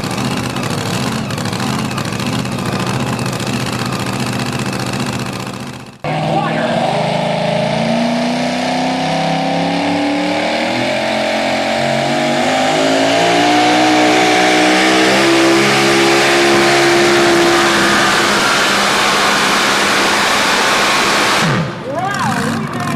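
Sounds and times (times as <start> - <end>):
truck engine running hard: 0.0 - 22.9.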